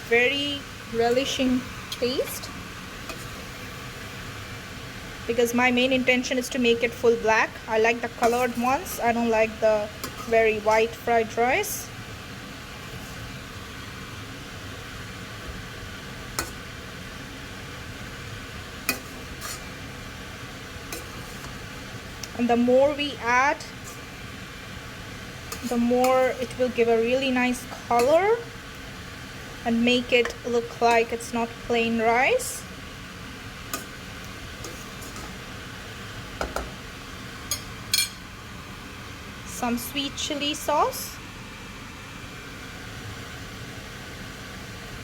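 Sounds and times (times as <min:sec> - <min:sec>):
rice sizzling in a pan: 0:00.0 - 0:45.0.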